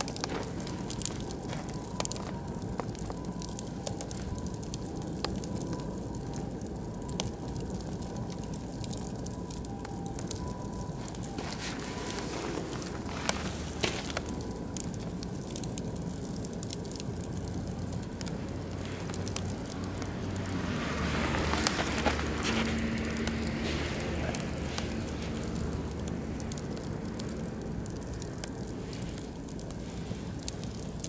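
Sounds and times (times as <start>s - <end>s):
low rush of flame: 0.0s - 31.0s
wood fire crackling: 0.0s - 31.0s.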